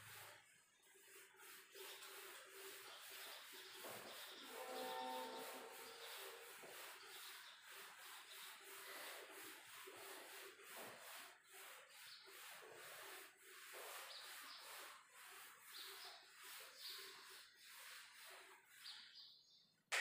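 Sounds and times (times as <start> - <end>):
eraser rubbing on whiteboard: 0.0 - 19.2.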